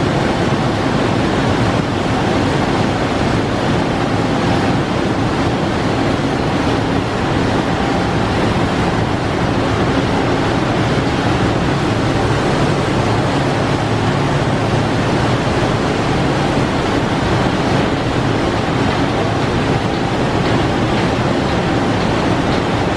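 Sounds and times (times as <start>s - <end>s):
printing press running: 0.0s - 22.9s.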